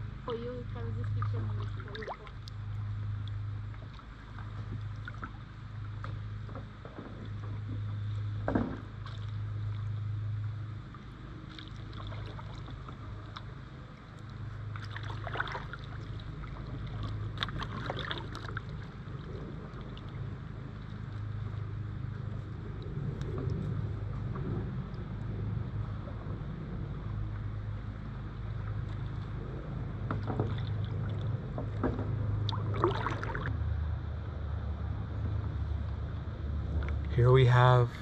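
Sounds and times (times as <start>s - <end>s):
paddle dipping and dripping: 0.0s - 33.7s
low steady hum: 0.0s - 38.0s.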